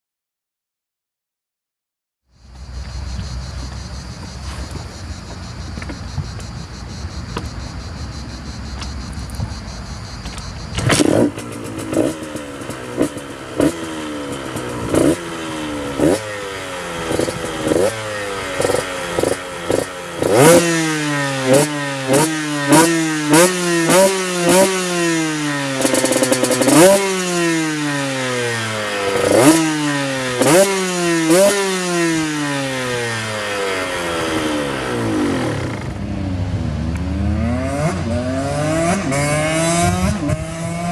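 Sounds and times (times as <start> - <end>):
two-stroke engine revving: 2.5 - 40.9.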